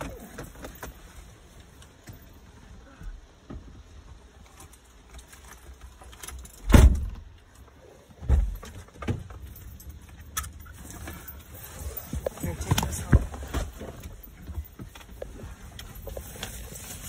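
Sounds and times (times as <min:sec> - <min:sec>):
clicks and knocks inside car: 0:00.0 - 0:17.0.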